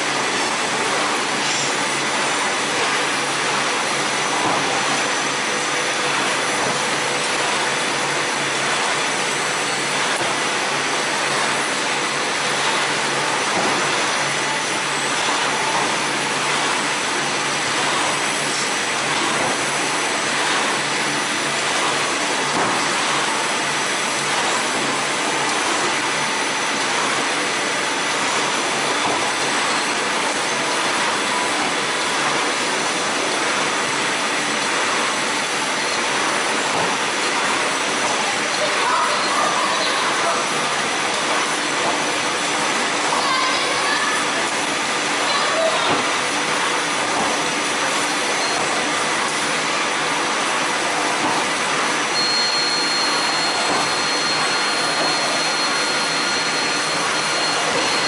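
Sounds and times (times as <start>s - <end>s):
bag-making machines running: 0.0s - 58.0s.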